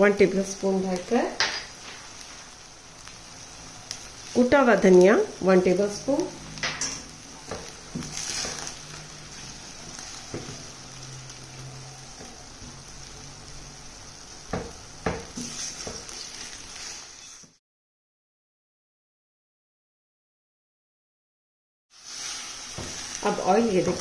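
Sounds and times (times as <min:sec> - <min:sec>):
meat sizzling in a pan: 0:00.0 - 0:17.6, 0:21.9 - 0:24.0.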